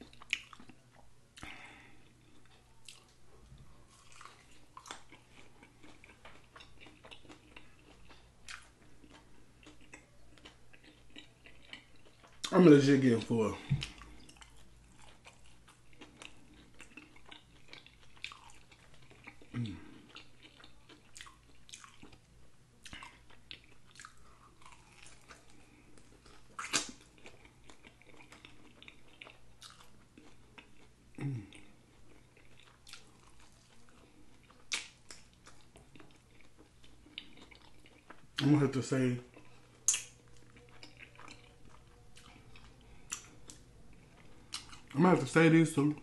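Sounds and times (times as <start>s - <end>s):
chewing and lip-smacking: 0.0s - 45.0s.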